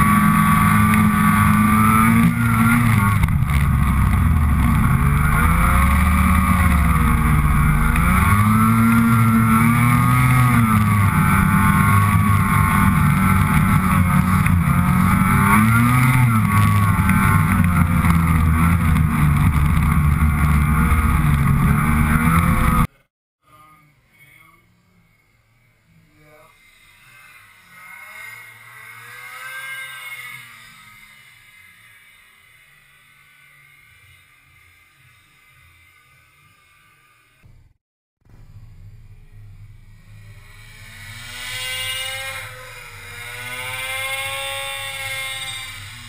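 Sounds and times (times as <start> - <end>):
snowmobile engine revving: 0.0 - 23.0, 25.1 - 37.2, 40.0 - 46.0.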